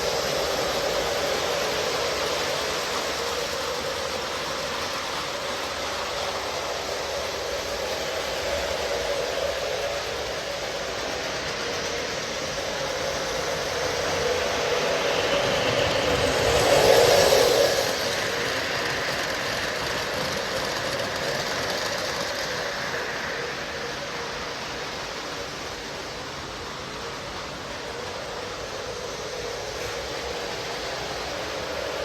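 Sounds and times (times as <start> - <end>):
model train rumbling on track: 0.0 - 32.0.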